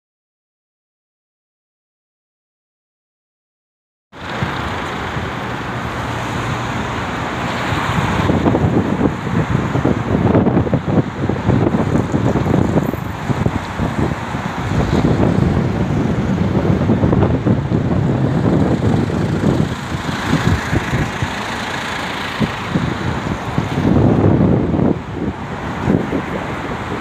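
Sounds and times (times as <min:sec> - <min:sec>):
city road traffic: 0:04.1 - 0:27.0
wind buffeting microphone: 0:04.2 - 0:27.0.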